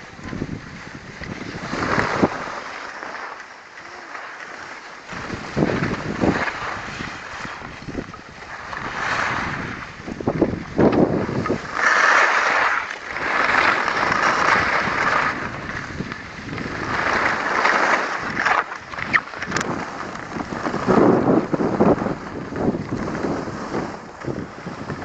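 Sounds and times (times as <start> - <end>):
wind buffeting microphone: 0.0 - 2.6, 5.1 - 25.0
skis scraping over packed snow: 0.0 - 25.0.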